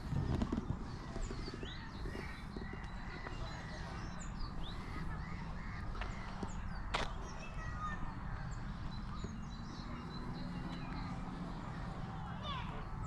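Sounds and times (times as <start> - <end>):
wild birds chirping and whistling: 0.0 - 12.6
low wind rumble on microphone: 0.0 - 13.0.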